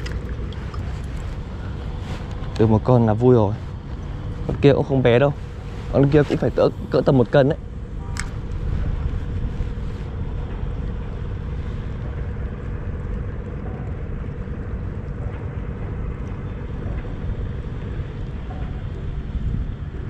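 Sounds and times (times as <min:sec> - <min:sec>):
faint hum: 0:00.0 - 0:20.0
wind buffeting microphone: 0:00.0 - 0:20.0.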